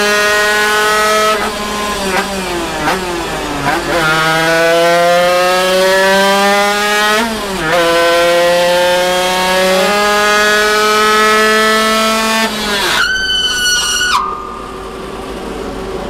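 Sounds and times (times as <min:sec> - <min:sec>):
two-stroke engine screaming: 0:00.0 - 0:15.1.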